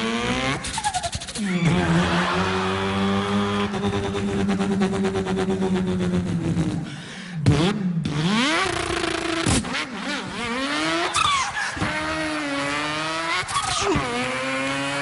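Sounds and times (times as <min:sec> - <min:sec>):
man imitating car engine: 0:00.2 - 0:09.5, 0:10.3 - 0:15.0.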